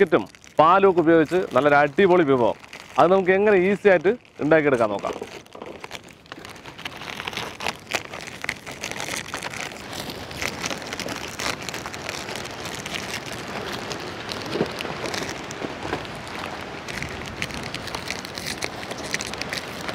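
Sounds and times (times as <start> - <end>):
foil packets tearing and crinkling: 0.0 - 19.9.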